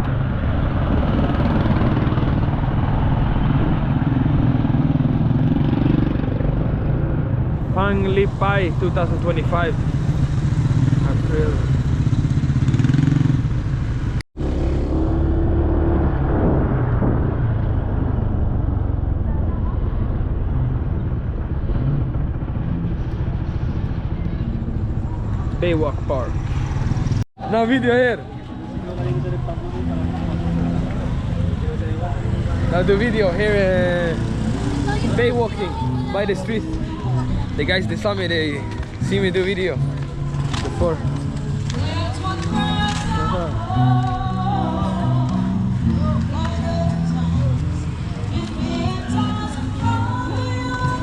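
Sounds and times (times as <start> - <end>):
motorbike engine rumbling: 0.0 - 51.0
road and wind noise: 0.0 - 51.0.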